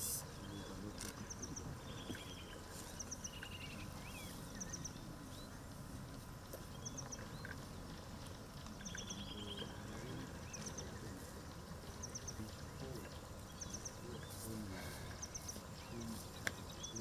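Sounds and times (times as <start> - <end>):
low background noise: 0.0 - 17.0
bird trill: 0.3 - 5.7, 6.4 - 17.0.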